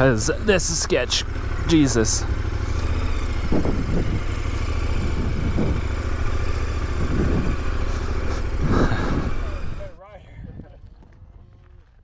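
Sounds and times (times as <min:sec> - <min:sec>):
motorcycle engine running: 0:00.0 - 0:10.0, 0:10.6 - 0:12.0.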